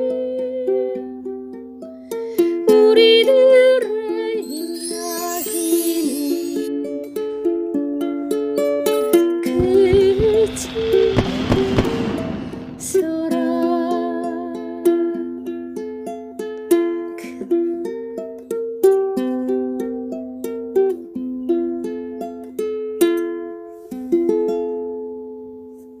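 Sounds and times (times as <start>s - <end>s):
ukulele playing slow melody: 0.0s - 4.4s, 6.6s - 11.3s, 12.9s - 26.0s.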